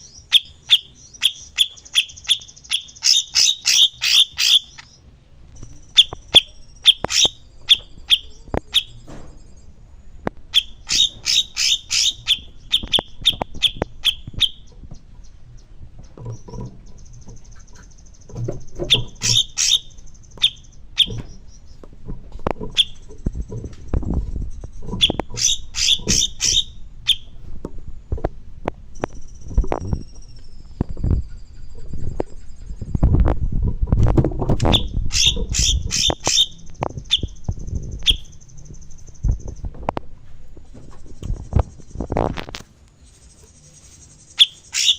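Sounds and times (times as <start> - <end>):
songbird chirping: 0.0 - 27.5, 28.2 - 33.3, 34.6 - 42.2, 42.9 - 44.9.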